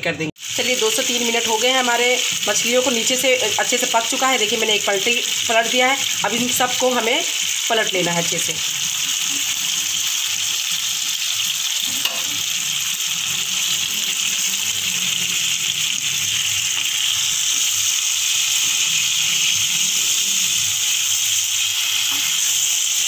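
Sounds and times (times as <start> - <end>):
fish sizzling in oil: 0.4 - 23.0.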